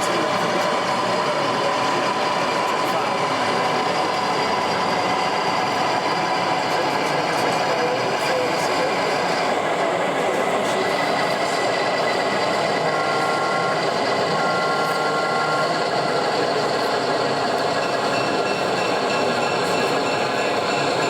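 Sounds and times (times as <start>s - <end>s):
hubbub of exhibition hall: 0.0s - 21.0s
model train running: 0.0s - 21.0s.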